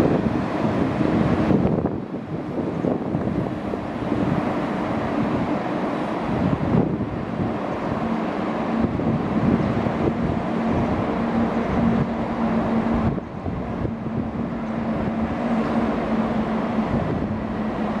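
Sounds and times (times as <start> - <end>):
train coaches rumbling on rails: 0.0 - 18.0.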